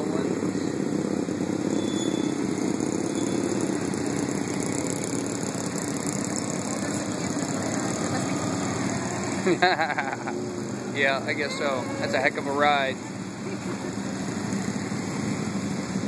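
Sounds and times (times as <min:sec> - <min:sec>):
motorcycle engines riding past: 0:00.0 - 0:16.0.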